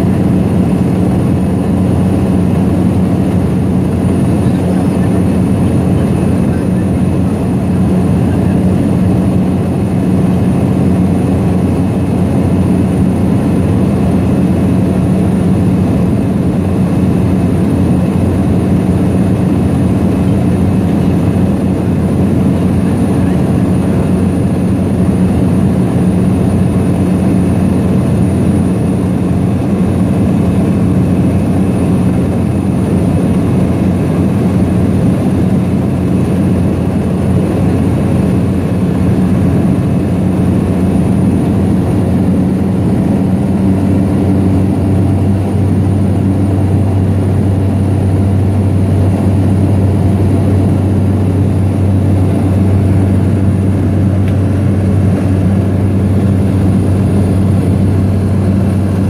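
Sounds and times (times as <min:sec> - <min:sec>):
propeller engine droning: 0:00.0 - 0:59.0.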